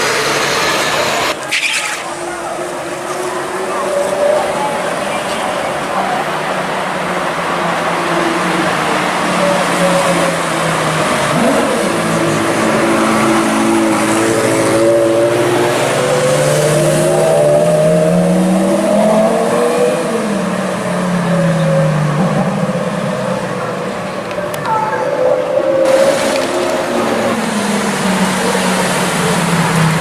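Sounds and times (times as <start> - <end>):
car engine revving: 0.0 - 30.0
street noise: 0.0 - 30.0.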